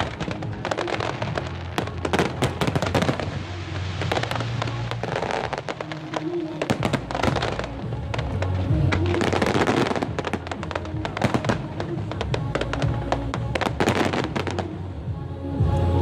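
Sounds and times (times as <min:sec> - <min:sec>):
fireworks bangs and crackles: 0:00.0 - 0:15.1
music playing: 0:00.0 - 0:16.0.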